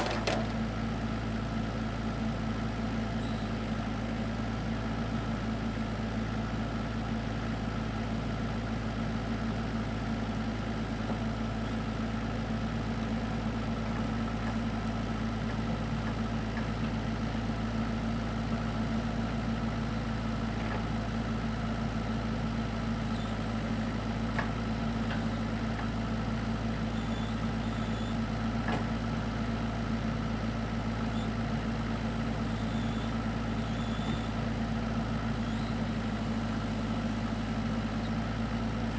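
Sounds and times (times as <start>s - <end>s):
excavator diesel engine idling: 0.0s - 38.9s.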